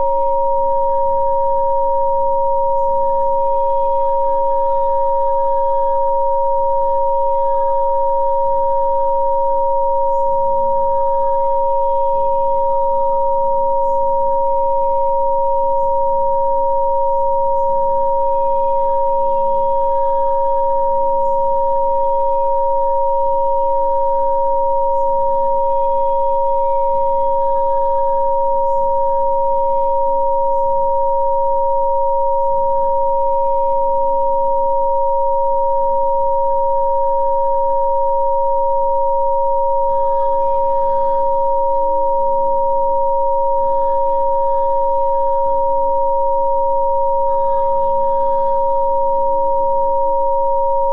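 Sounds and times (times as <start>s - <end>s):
steady electronic pure tones: 0.0s - 50.9s.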